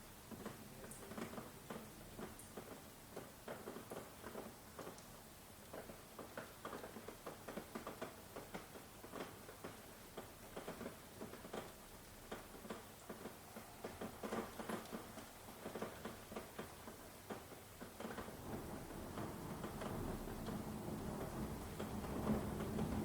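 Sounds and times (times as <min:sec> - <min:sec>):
soft hiss of falling rain: 0:00.0 - 0:23.0
heavy raindrops tapping: 0:00.3 - 0:23.0.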